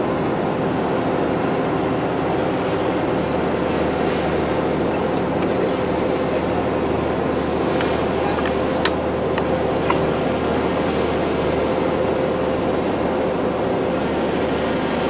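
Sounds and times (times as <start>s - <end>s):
ship engines droning: 0.0s - 15.0s
water rushing along hull: 0.0s - 15.0s.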